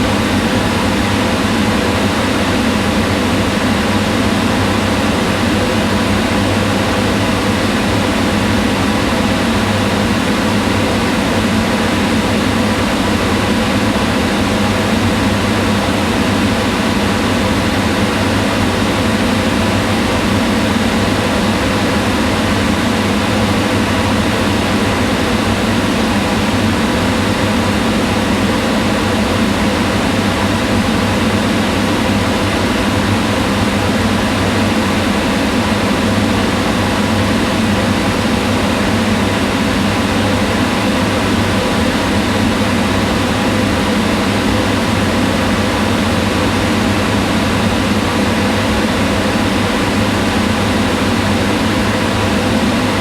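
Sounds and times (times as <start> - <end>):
range hood fan whirring: 0.0 - 53.0.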